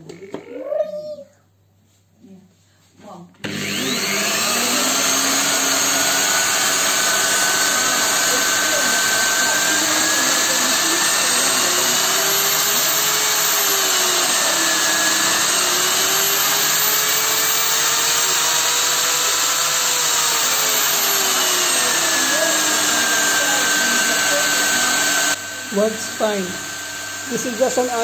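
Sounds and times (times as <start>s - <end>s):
drill motor whine changing pitch: 3.4s - 28.0s.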